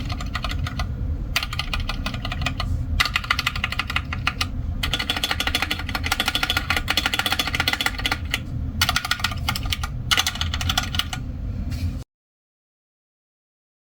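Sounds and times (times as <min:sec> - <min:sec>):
mechanical keyboard typing: 0:00.0 - 0:11.2
steady low hum: 0:00.0 - 0:12.0.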